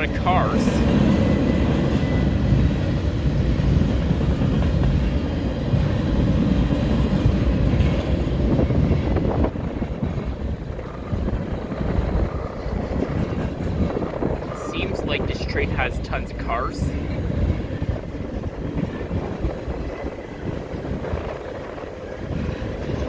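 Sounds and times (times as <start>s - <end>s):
freight train cars rolling past: 0.0s - 23.0s.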